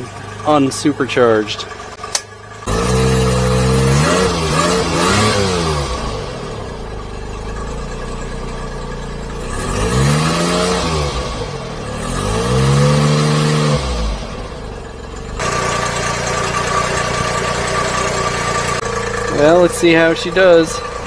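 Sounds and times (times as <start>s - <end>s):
supercharged engine revving: 0.0s - 21.0s.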